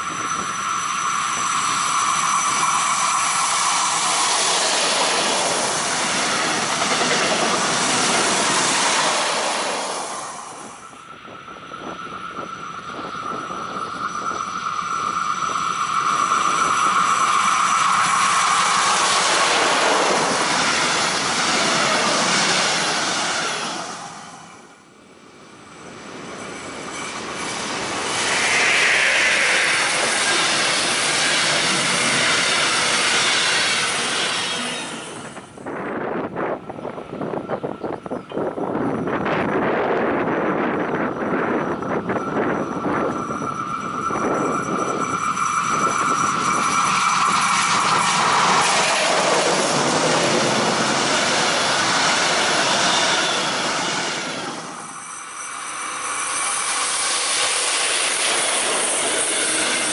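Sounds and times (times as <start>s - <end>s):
locomotive whine: 0.0s - 59.9s
passenger train passing: 0.0s - 59.9s.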